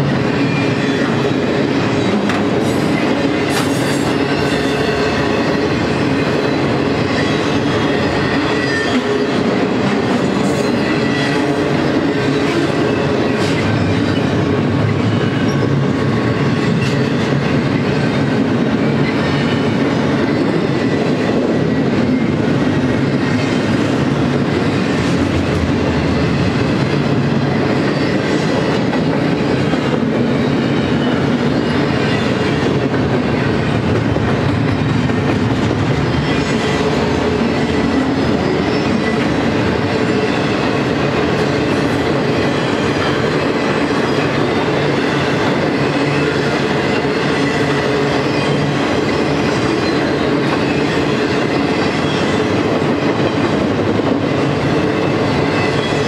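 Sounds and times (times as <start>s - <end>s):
freight train wheels clattering: 0.0s - 56.0s.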